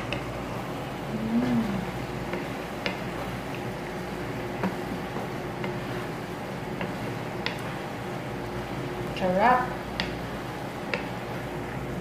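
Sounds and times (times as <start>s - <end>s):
sauce simmering bubbling hiss: 0.0s - 12.0s.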